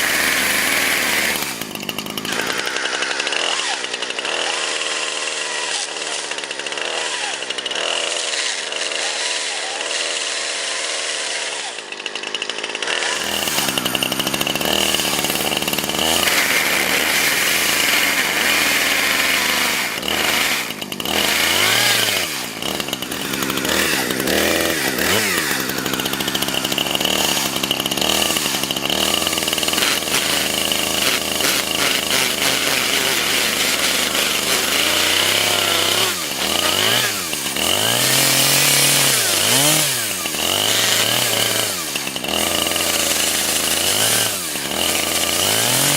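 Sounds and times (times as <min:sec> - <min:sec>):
chainsaw revving and cutting: 0:00.0 - 0:45.9.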